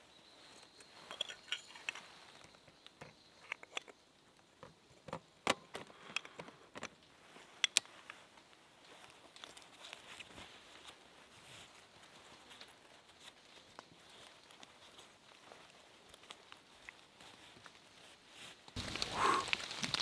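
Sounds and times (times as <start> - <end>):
quiet forest background: 0.0 - 20.0.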